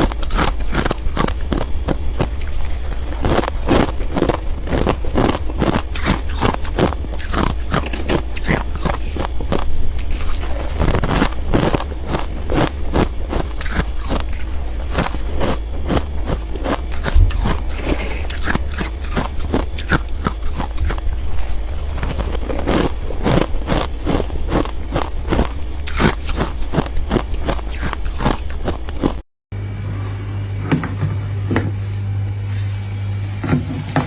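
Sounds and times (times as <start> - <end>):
frost being chewed: 0.0 - 29.2
steady low hum: 0.0 - 34.0.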